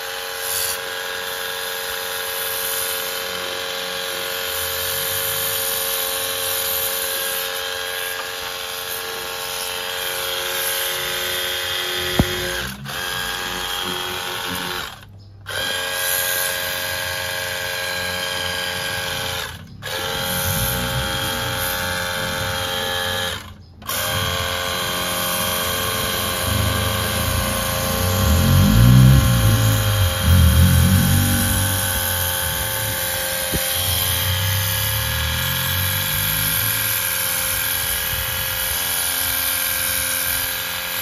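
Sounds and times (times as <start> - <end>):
electric motor whining: 3.0 - 40.4.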